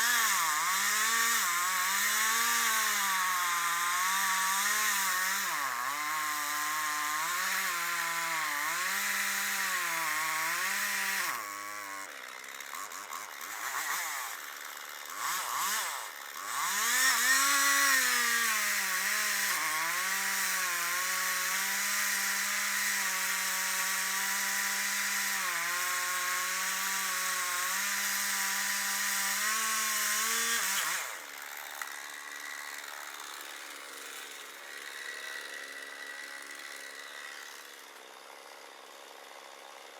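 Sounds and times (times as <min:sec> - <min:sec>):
chainsaw engine cutting: 0:00.0 - 0:39.9.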